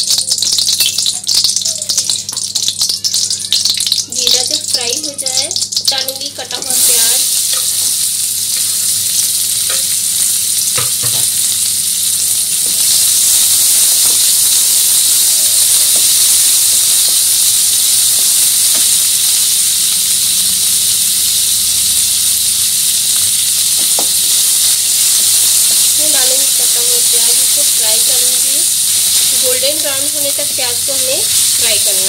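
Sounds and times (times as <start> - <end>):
onion sizzling in oil: 0.0 - 32.0.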